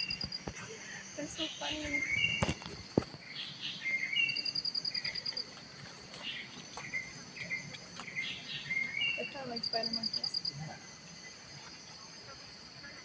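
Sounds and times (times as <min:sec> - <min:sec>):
high insect drone: 0:00.0 - 0:13.0
rapid pulsing insect trill: 0:00.0 - 0:13.0.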